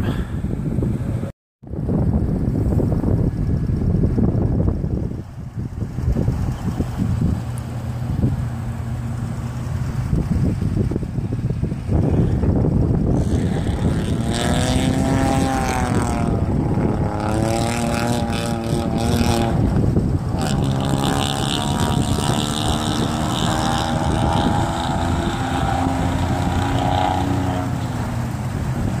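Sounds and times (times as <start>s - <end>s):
wind noise on microphone: 0.0s - 29.0s
vehicle engine running: 0.7s - 29.0s.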